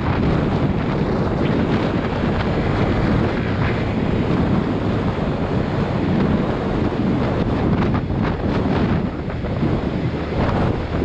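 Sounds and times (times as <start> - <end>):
road noise: 0.0 - 11.0
wind rushing over microphone: 0.0 - 11.0.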